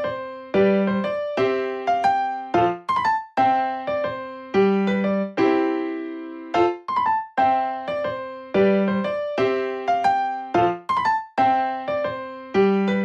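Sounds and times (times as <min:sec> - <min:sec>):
keyboard piano-like chords: 0:00.0 - 0:13.0.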